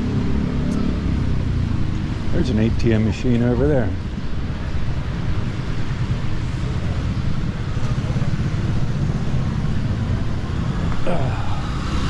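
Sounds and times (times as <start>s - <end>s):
motorcycles passing: 0.0s - 12.0s
passing vehicle engines: 0.0s - 12.0s.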